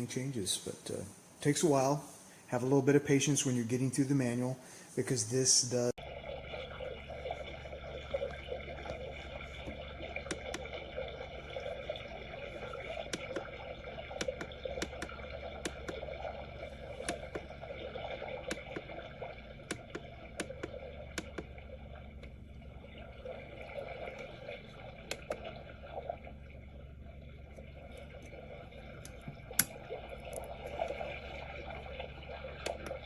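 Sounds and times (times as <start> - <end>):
trickling water gurgle: 0.0 - 33.0
low hum: 5.9 - 33.0
water drips and splashes: 6.0 - 33.0.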